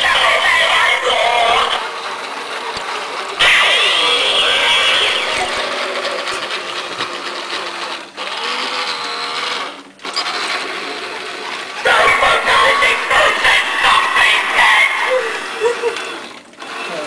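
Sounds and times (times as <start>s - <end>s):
toy electric motor whirring: 0.0s - 17.0s.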